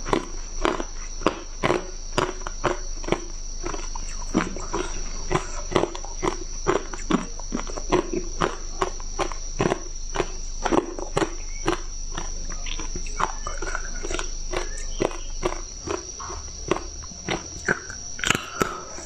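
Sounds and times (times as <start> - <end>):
faint high-pitched whine: 0.0 - 19.0
ice crunching between teeth: 0.0 - 19.0.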